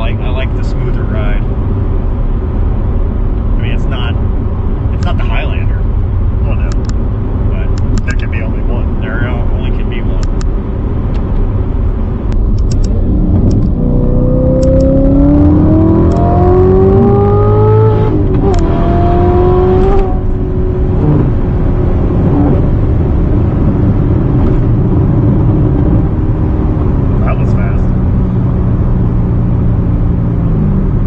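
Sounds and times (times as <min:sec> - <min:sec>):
road and tyre noise: 0:00.0 - 0:31.0
car engine accelerating: 0:05.8 - 0:31.0.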